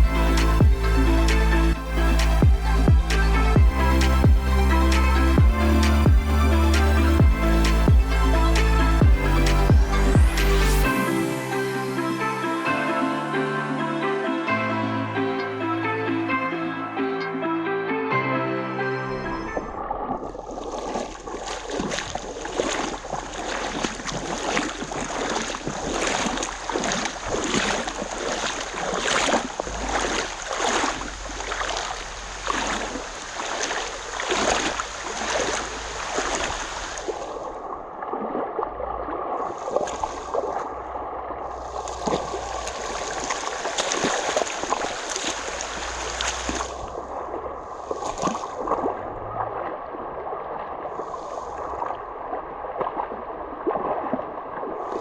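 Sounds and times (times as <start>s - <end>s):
creek water rushing over rocks: 0.0s - 13.4s, 19.7s - 55.0s.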